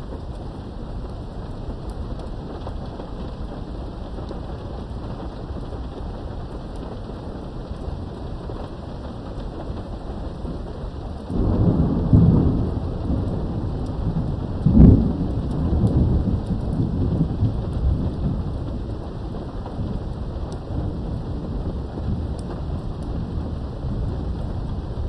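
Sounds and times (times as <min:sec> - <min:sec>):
steady rain: 0:00.0 - 0:25.0
thunder rumbling and cracking: 0:00.0 - 0:25.0.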